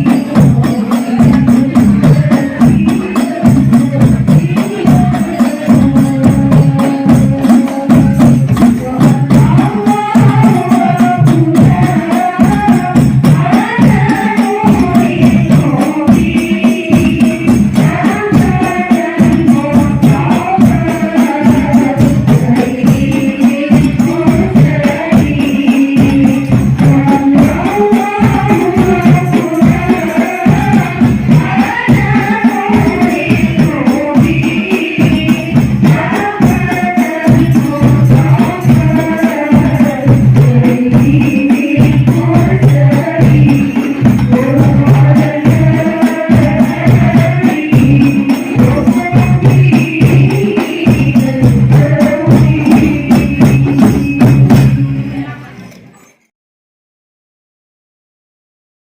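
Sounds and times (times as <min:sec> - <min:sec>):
frame drums beating: 0:00.0 - 0:55.5
person singing melody: 0:00.0 - 0:55.6.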